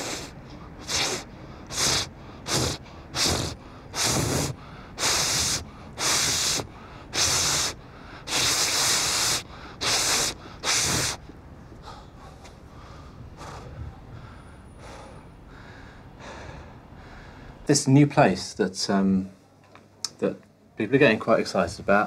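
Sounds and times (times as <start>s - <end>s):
man breathing hard: 0.0s - 17.7s.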